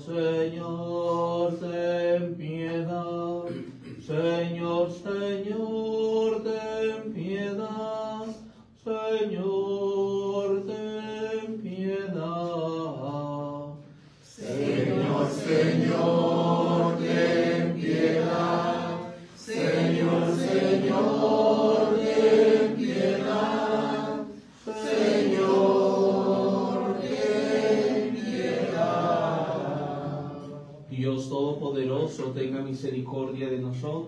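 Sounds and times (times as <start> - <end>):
group singing a hymn: 0.0 - 31.0.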